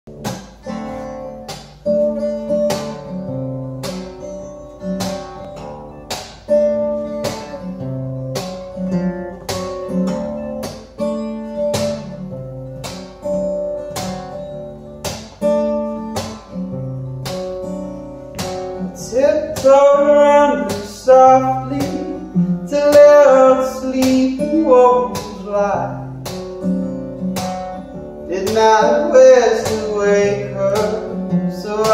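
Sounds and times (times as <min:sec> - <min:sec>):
acoustic guitar chords: 0:00.1 - 0:31.9.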